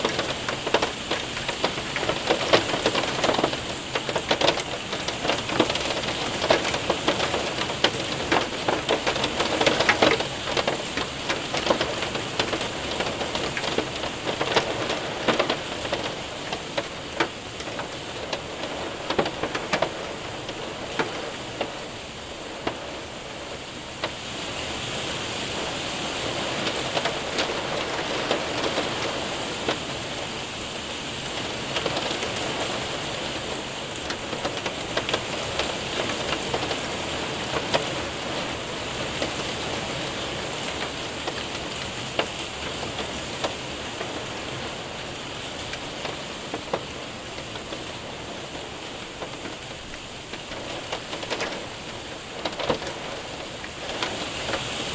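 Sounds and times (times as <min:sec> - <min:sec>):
hail ticking on window: 0:00.0 - 0:54.9
rain hiss: 0:00.0 - 0:54.9.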